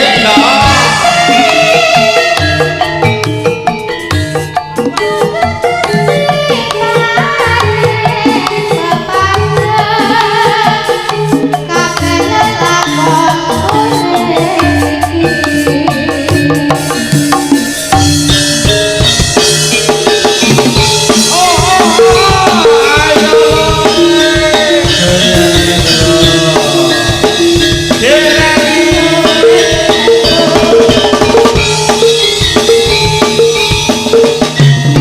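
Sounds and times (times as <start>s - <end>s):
drum strokes: 0.0s - 35.0s
repeating metallophone notes: 0.0s - 35.0s
wavering melodic line: 0.0s - 35.0s.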